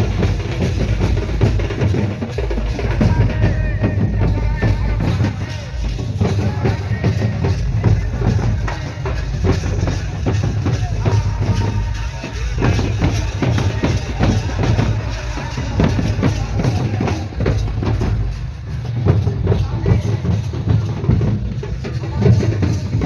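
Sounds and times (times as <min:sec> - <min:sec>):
drum-led music: 0:00.0 - 0:23.0.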